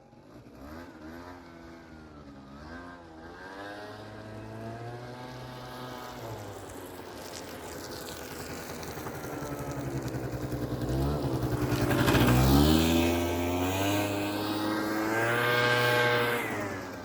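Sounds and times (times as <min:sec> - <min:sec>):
scooter engine accelerating: 0:00.0 - 0:17.0.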